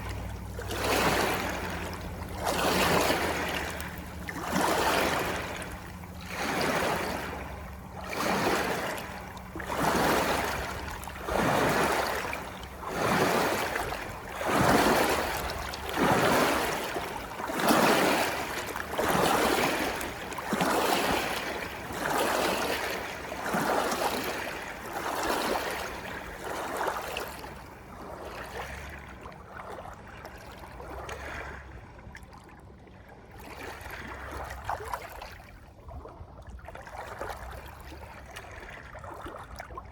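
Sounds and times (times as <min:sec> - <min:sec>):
water sloshing: 0:00.0 - 0:39.9.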